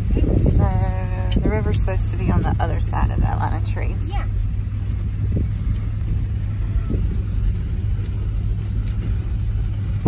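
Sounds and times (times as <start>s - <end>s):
vehicle engine cabin rumble: 0.0s - 10.0s.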